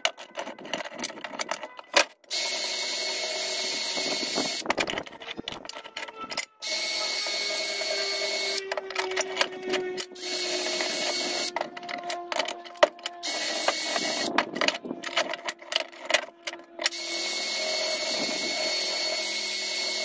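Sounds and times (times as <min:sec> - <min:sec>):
drill wire brush scratching metal: 0:00.0 - 0:20.0.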